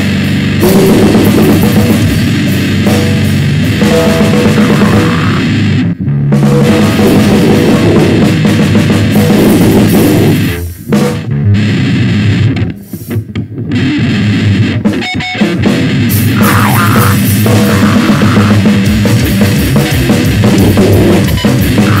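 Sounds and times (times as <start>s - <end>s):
distorted noise band playing: 0.0s - 22.0s.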